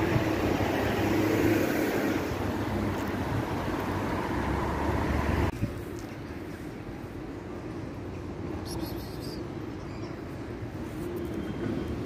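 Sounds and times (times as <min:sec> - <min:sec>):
low rumbling outdoor noise: 0:00.0 - 0:12.0.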